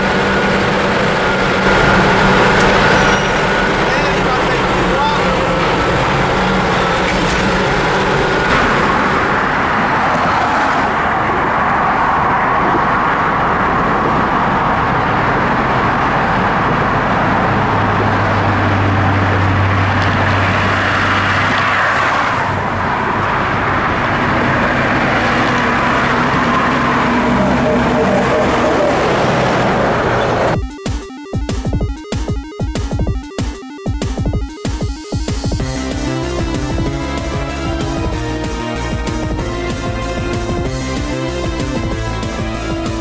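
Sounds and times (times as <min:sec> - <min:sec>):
diesel truck engines: 0:00.0 - 0:30.6, 0:35.2 - 0:43.0
road noise: 0:00.0 - 0:30.7, 0:34.2 - 0:43.0.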